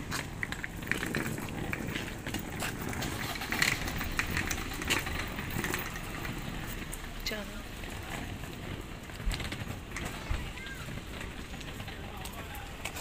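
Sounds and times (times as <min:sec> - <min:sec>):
trolley suitcase rolling over paving: 0:00.0 - 0:13.0.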